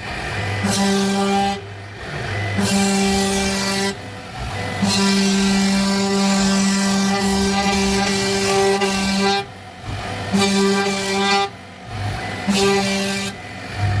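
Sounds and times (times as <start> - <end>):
router machine whine: 0.0 - 14.0.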